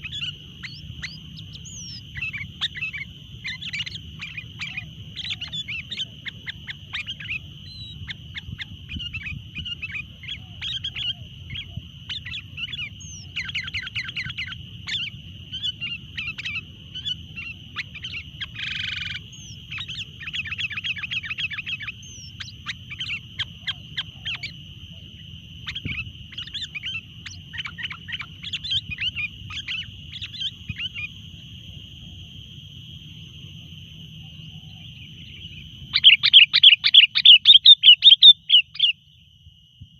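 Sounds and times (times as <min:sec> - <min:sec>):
birds chirping: 0:00.0 - 0:31.3, 0:34.2 - 0:39.0.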